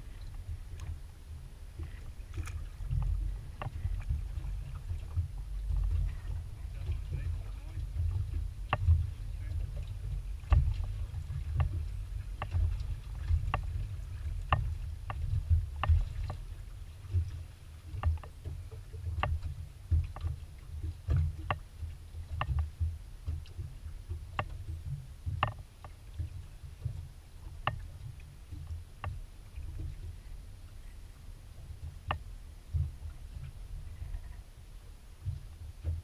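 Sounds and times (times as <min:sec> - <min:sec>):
water lapping against boat hull: 0:00.0 - 0:36.0.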